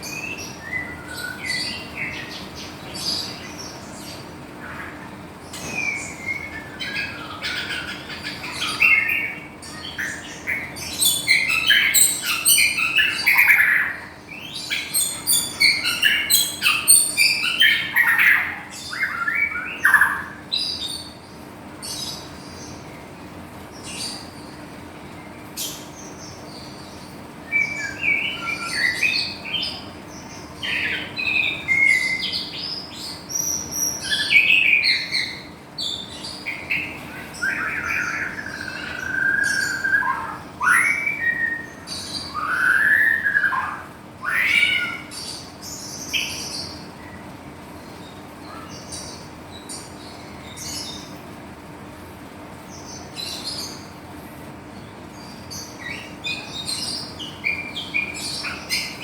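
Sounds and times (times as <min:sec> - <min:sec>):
songbird singing varied phrases: 0:00.0 - 0:51.2.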